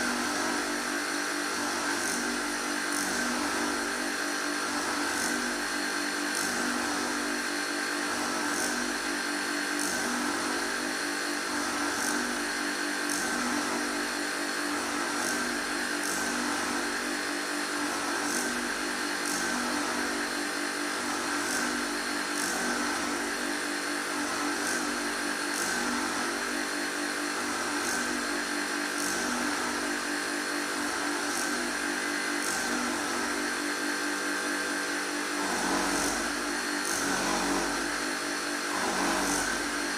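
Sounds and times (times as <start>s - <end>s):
grinding machine motor hum: 0.0s - 39.9s.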